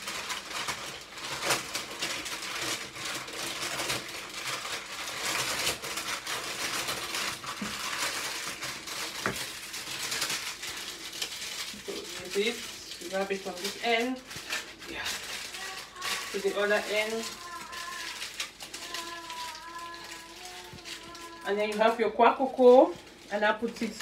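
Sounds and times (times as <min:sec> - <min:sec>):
baking paper crinkling: 0:00.0 - 0:24.0.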